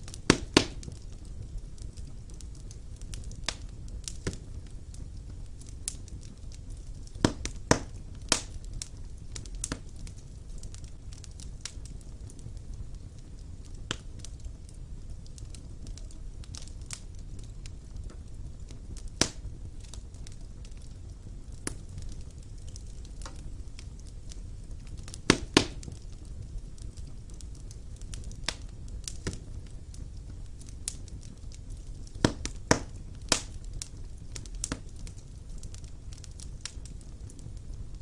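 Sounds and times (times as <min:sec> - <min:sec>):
fire crackling and popping: 0:00.0 - 0:38.0
fire flames rumbling: 0:00.0 - 0:38.0.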